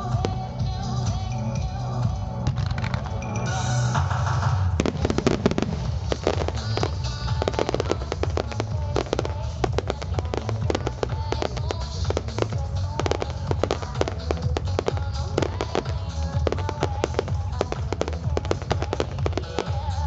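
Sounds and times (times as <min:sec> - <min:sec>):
music with heavy bass: 0:00.0 - 0:20.0
fireworks bursting and banging: 0:02.4 - 0:20.0.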